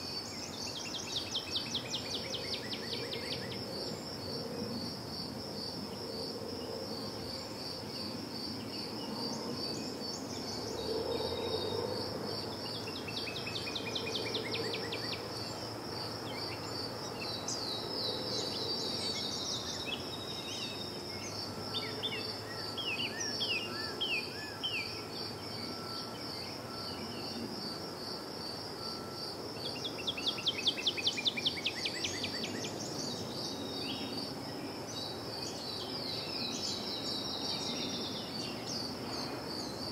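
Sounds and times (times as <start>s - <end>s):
cricket chirping: 0.0s - 39.9s
songbirds trilling and chirping: 0.0s - 39.9s.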